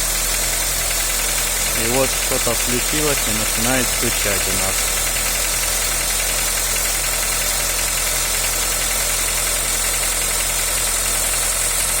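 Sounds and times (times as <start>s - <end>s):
car engine idling: 0.0s - 12.0s
engine knocking: 0.0s - 12.0s.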